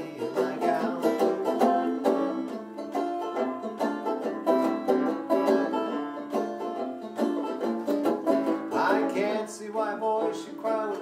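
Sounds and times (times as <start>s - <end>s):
plucked acoustic strings: 0.0s - 11.0s.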